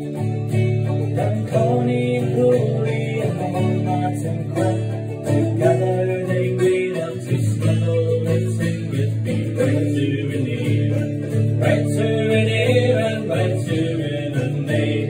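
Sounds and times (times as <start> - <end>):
acoustic guitar strummed: 0.0 - 15.0
banjo picked: 0.0 - 15.0.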